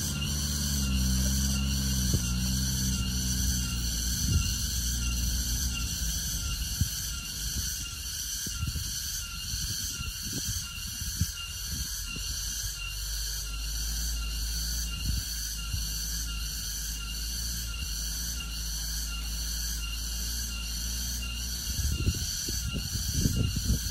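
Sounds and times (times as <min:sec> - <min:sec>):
insects chorus pulsing: 0:00.0 - 0:23.9
small truck engine droning: 0:00.0 - 0:23.9.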